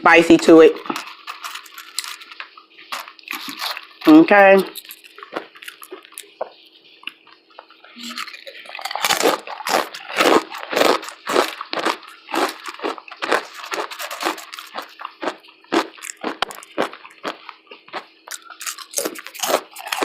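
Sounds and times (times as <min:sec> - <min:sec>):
potato chips crunching: 0:00.8 - 0:07.2, 0:08.0 - 0:20.0.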